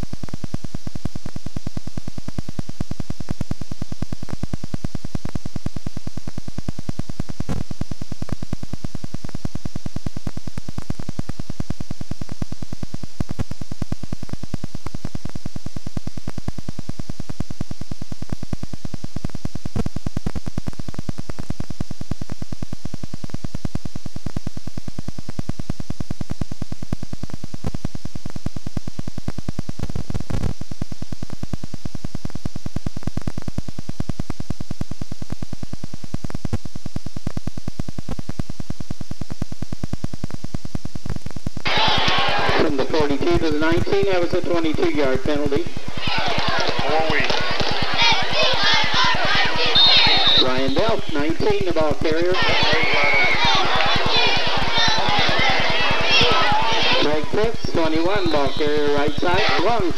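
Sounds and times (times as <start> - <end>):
rapid pulsing buzz: 0.0 - 59.9
tape playback hiss: 0.0 - 59.9.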